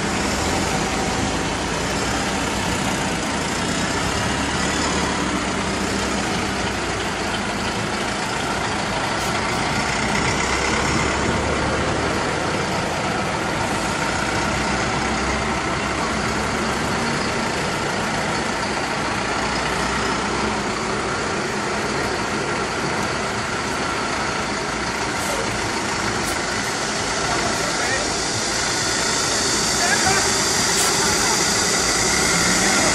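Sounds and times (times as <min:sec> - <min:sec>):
garbage truck engines: 0:00.0 - 0:32.9.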